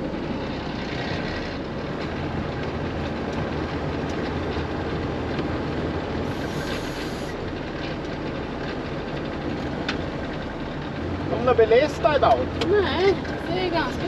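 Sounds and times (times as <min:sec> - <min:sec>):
snow blower churning: 0:00.0 - 0:12.2
tractor engine running: 0:00.0 - 0:14.0.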